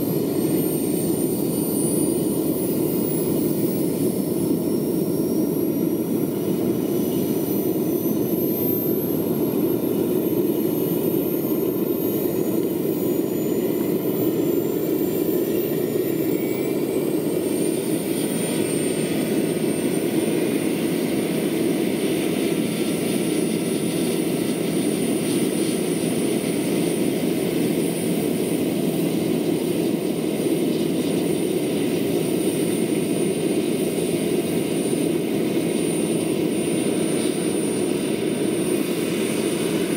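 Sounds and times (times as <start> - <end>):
gas turbine whine: 0.0 - 39.9.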